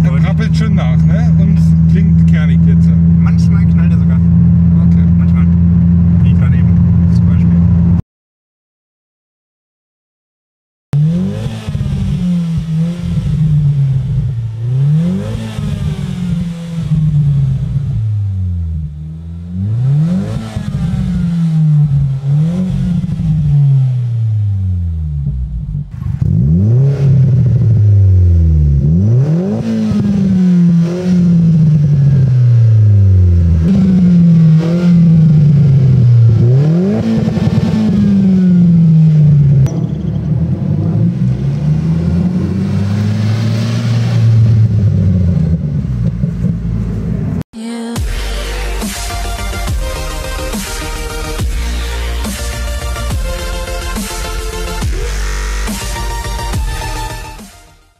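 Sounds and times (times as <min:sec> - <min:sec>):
car engine revving: 0:00.0 - 0:08.0, 0:11.0 - 0:47.4, 0:48.0 - 0:57.9.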